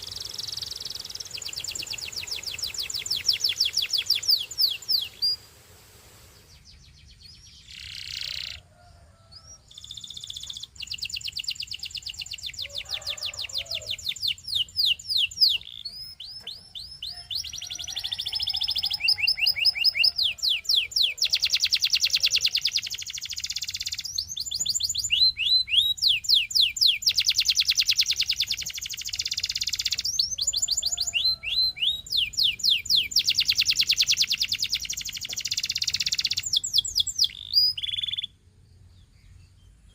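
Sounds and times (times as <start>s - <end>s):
canary singing trills: 0.0s - 5.5s, 6.4s - 39.8s.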